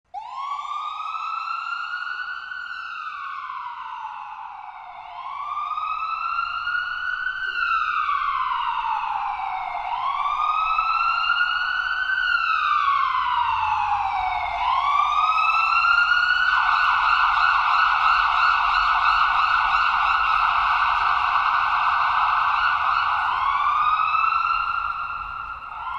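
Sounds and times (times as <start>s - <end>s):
siren wailing: 0.2s - 25.9s.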